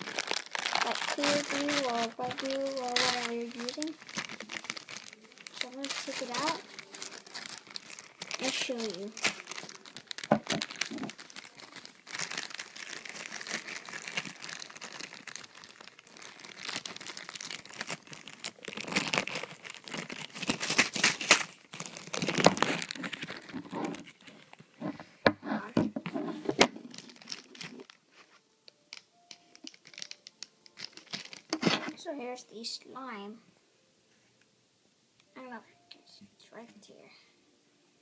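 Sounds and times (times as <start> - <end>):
packaging crinkling and rustling: 0.0 - 32.0.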